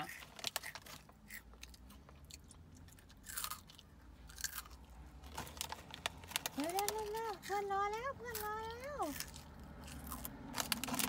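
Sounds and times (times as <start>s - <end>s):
child chewing crunchy snack: 0.0s - 7.6s, 8.3s - 11.0s.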